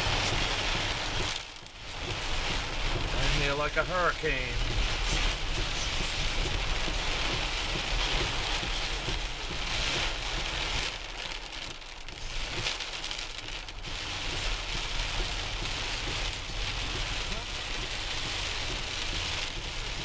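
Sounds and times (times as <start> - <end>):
heavy rain on car roof: 0.0 - 20.0
steady low rumble: 0.0 - 20.0.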